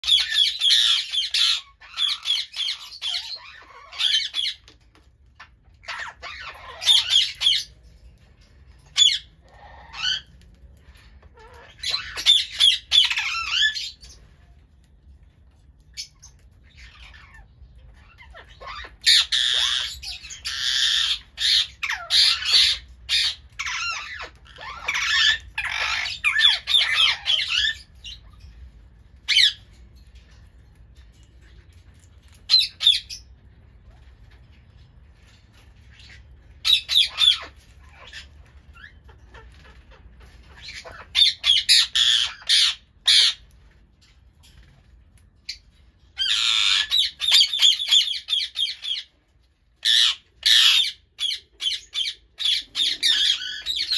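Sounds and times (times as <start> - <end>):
parakeets squawking: 0.0 - 14.2, 15.9 - 30.3, 32.3 - 34.6, 35.3 - 43.6, 45.4 - 53.9.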